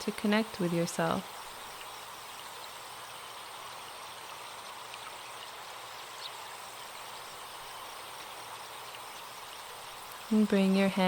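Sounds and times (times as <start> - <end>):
faint bird chirps: 0.0 - 10.7
forest stream flowing: 0.0 - 11.0.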